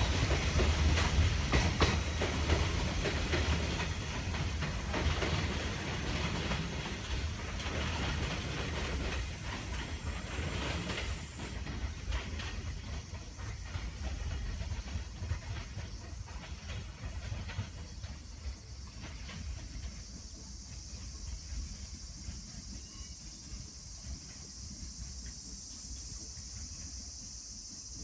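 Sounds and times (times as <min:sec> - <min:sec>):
freight train rumbling past: 0:00.0 - 0:28.0
train wheels clicking over rail joints: 0:00.0 - 0:28.0.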